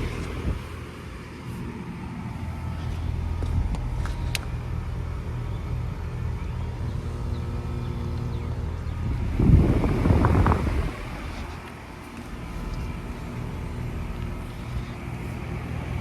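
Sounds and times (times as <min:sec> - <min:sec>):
heat pump compressor hum: 0:00.0 - 0:16.0.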